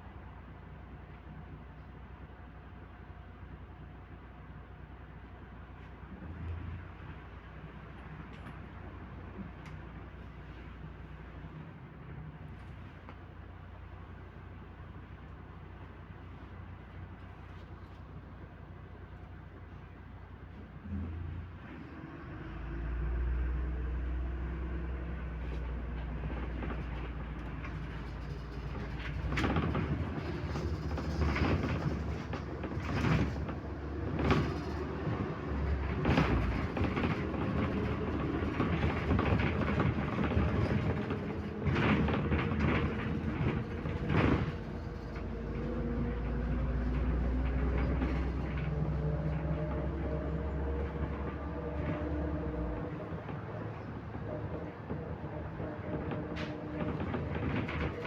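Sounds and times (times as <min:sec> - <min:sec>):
bus engine humming: 0:00.0 - 0:58.0.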